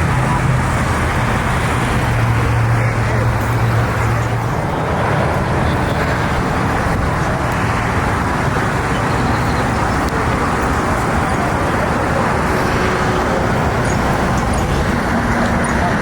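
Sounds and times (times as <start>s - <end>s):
rumble of motor vehicles: 0.0s - 16.0s.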